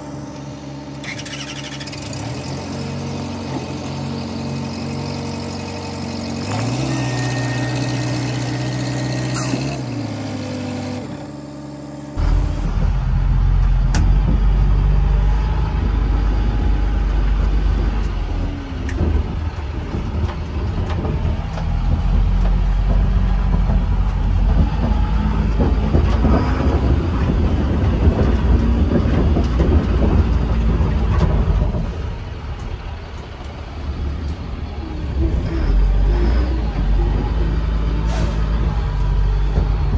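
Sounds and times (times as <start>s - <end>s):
crane engine revving: 0.0s - 39.9s
diesel truck engine rumbling: 0.0s - 39.9s.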